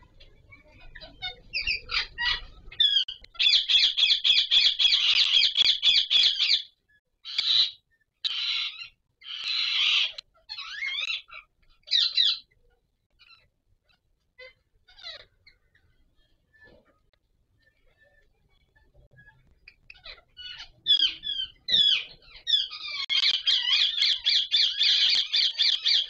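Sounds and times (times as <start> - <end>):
parakeets calling and squawking: 0.0 - 26.0.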